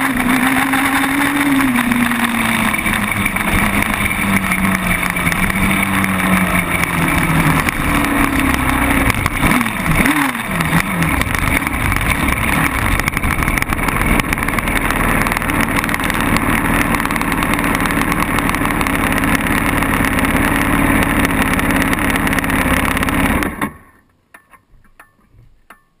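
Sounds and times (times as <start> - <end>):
quad bike engine revving: 0.0 - 23.9.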